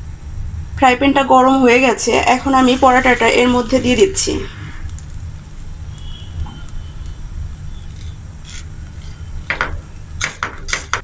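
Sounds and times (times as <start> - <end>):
gas stove burner rumble: 0.7 - 11.0.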